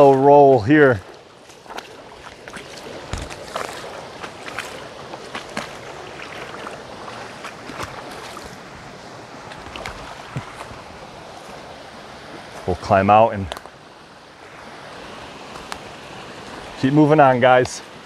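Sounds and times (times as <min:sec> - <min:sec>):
splashes of wading: 0:00.0 - 0:12.7, 0:13.5 - 0:18.0
creek water running: 0:00.0 - 0:18.0.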